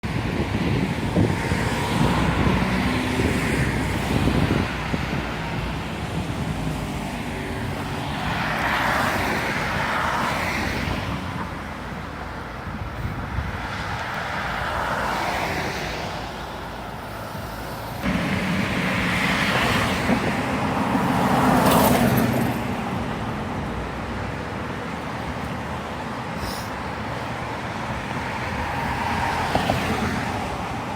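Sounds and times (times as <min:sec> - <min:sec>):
cars passing: 0:00.0 - 0:30.9.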